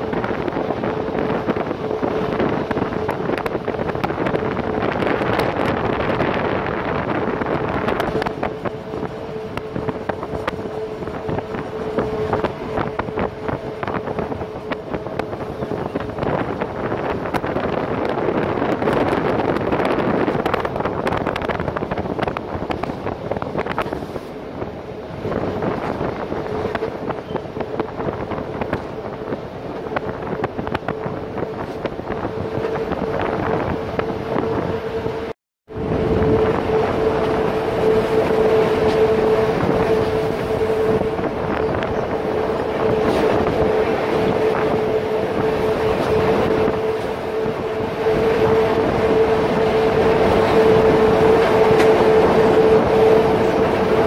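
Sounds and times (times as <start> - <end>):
electric train running: 0.0 - 54.0
wind buffeting microphone: 0.0 - 54.0.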